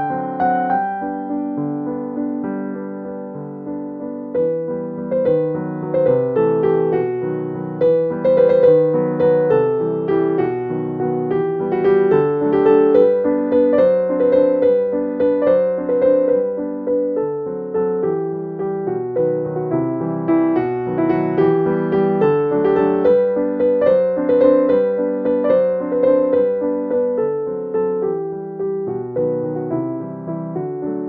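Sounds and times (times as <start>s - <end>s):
background piano music: 0.0s - 31.0s.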